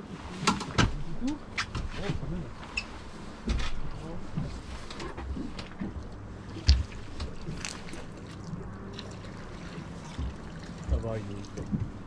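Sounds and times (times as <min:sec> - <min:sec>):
boat engine low hum: 0:00.0 - 0:12.0
water lapping: 0:00.0 - 0:12.0
wind: 0:00.0 - 0:12.0.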